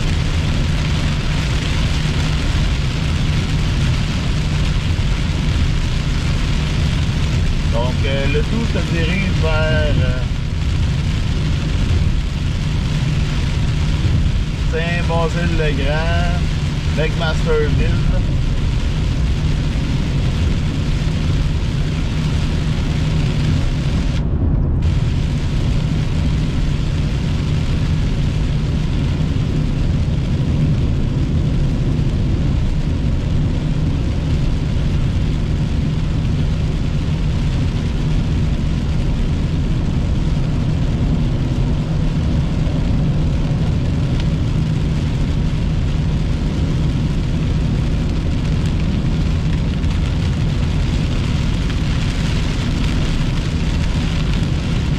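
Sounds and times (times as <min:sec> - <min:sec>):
car engine and tyre drone: 0:00.0 - 0:54.9
hiss of spray and rain: 0:00.0 - 0:54.9.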